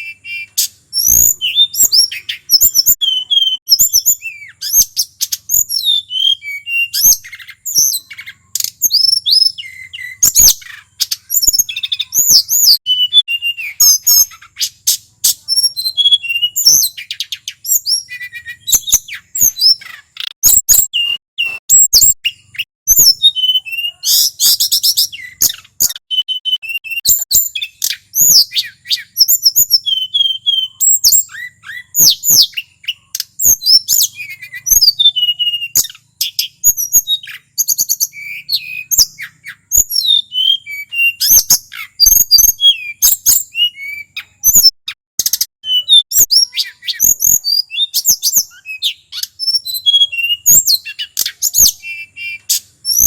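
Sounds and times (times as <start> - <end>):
bird singing whistles and trills: 0.0 - 53.0.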